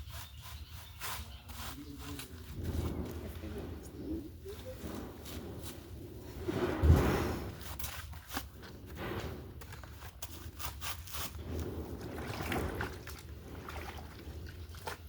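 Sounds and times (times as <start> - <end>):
laundry scrubbing: 0.0 - 15.0
water splashing and sloshing: 2.5 - 15.0.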